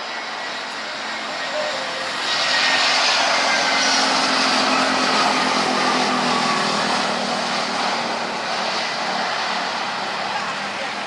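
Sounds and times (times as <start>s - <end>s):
jet airliner flying past: 0.0s - 11.0s.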